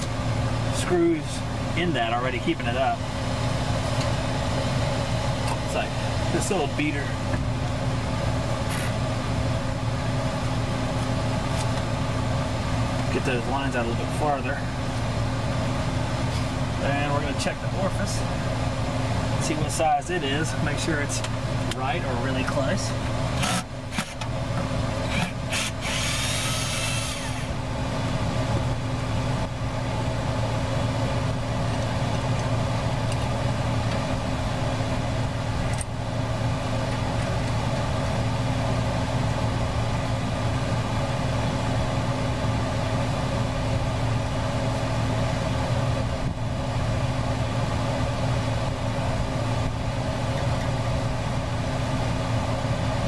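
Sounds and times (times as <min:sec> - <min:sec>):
portable fan humming: 0:00.0 - 0:53.0.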